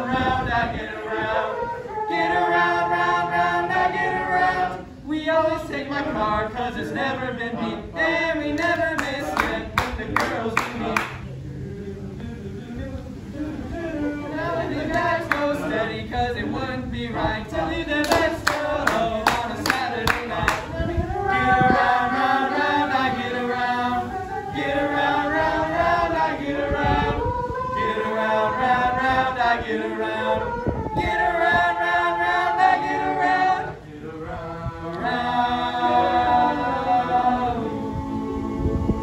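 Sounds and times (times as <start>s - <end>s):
boys singing in harmony: 0.0s - 39.0s.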